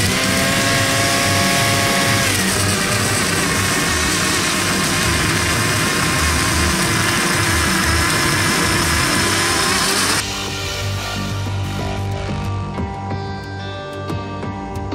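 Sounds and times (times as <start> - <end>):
motor whine: 0.0 - 12.7.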